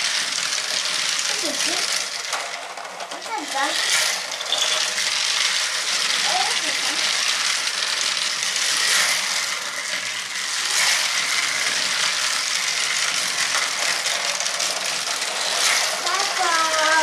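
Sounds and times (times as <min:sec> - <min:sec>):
toy car motors whirring: 0:00.0 - 0:17.0.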